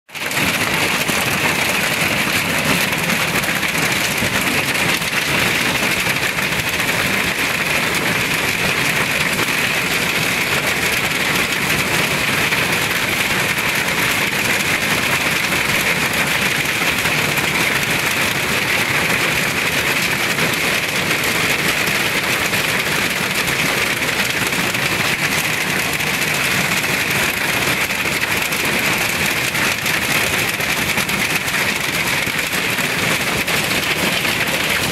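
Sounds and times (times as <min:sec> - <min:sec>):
hailstones pelting down: 0:00.1 - 0:34.9.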